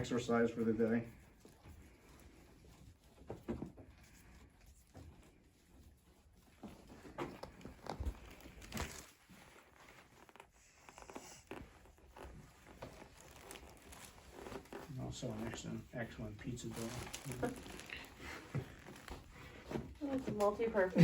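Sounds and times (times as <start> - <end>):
rolling pin rubbing on legs: 0.0 - 21.0.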